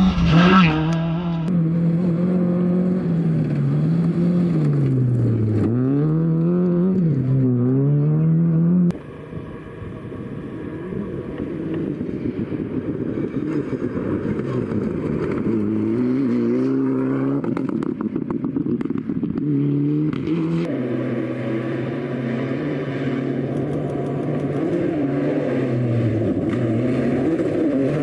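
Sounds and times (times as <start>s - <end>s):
car engine approaching: 0.0s - 28.0s
rally car engines revving: 0.0s - 28.0s.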